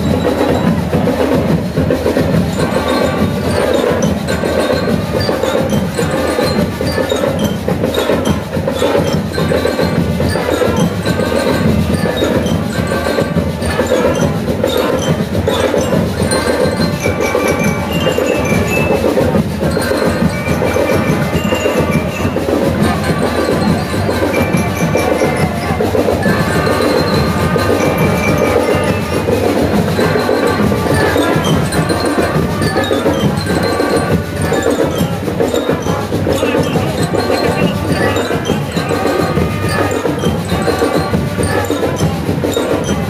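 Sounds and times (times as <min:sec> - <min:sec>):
brass instruments: 0:00.0 - 0:43.0
clicking percussion beat: 0:00.0 - 0:43.0
ringing bell lyres: 0:00.0 - 0:43.0.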